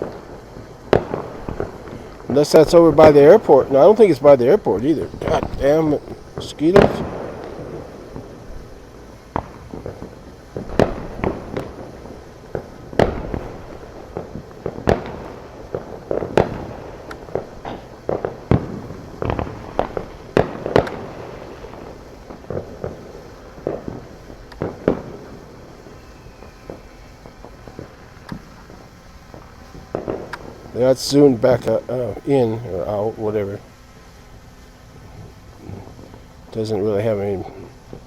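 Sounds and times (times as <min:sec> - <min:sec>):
fireworks and firecrackers banging: 0:00.0 - 0:38.0.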